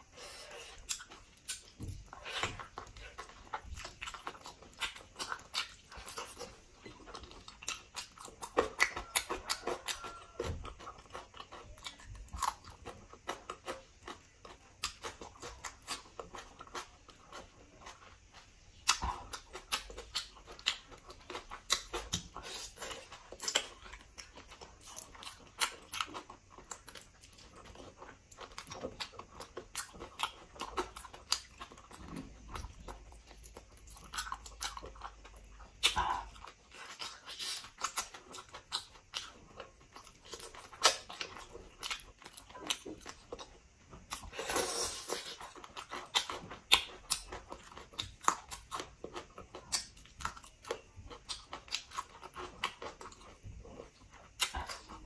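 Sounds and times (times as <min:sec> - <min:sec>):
wet chewing and lip-smacking: 0:00.0 - 0:55.0.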